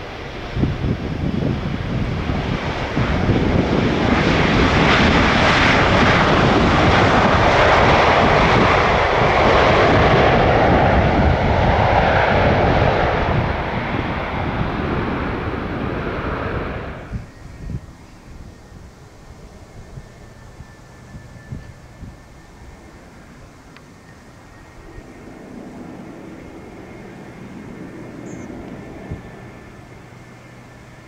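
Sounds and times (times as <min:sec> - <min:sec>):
airliner jet engines landing: 0:00.0 - 0:31.0.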